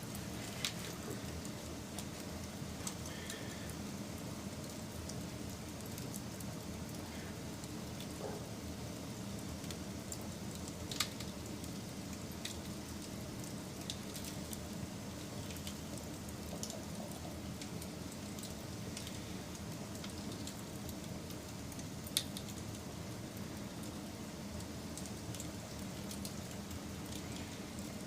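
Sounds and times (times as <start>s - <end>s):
wood fire burning: 0.0s - 28.0s.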